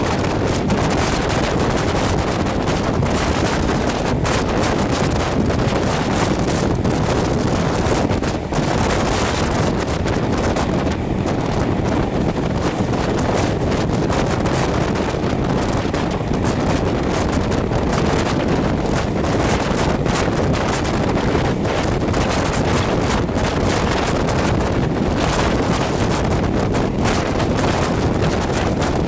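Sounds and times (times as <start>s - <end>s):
train running noise: 0.0s - 29.0s
wind buffeting microphone: 0.0s - 29.0s.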